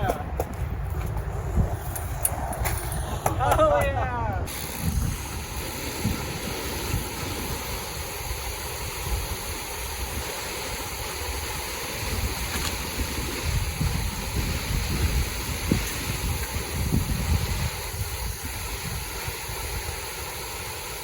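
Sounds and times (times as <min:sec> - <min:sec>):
wind buffeting microphone: 0:00.0 - 0:20.8
steady outdoor rush: 0:00.0 - 0:21.0.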